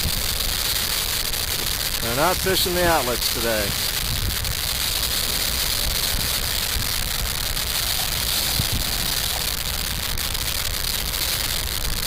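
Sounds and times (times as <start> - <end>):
floodwater rushing: 1.6 - 11.4.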